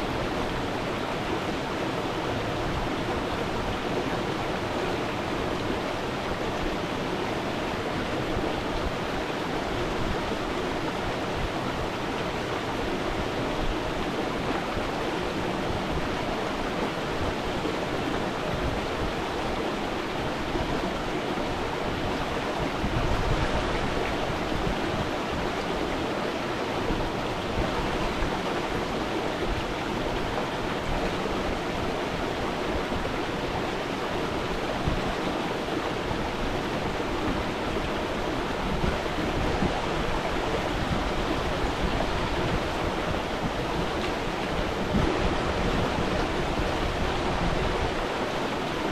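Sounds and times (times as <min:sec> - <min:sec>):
stream water flowing: 0:00.0 - 0:48.9.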